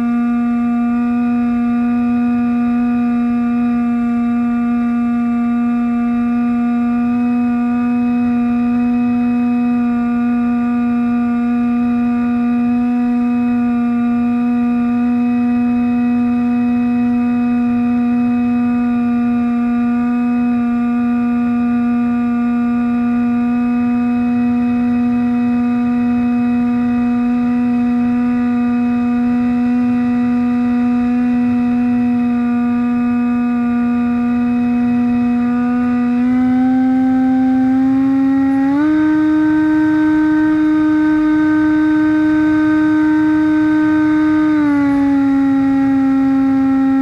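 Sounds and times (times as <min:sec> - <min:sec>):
electric motor and propeller whine: 0:00.0 - 0:47.0.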